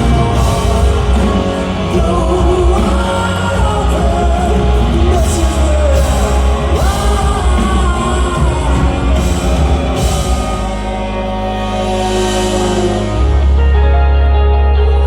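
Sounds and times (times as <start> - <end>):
man singing: 0.0 - 15.0
rock band playing live: 0.0 - 15.0.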